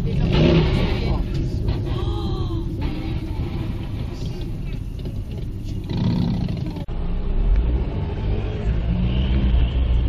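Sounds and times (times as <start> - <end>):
car engine: 0.0 - 10.0
road rumble: 0.0 - 10.0.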